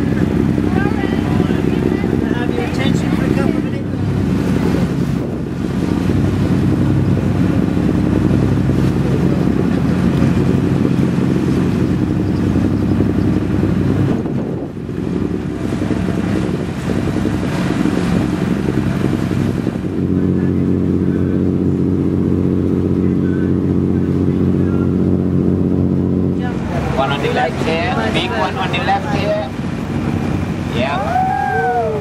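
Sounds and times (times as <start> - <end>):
boat engine running: 0.0 - 32.0
wind: 0.0 - 32.0.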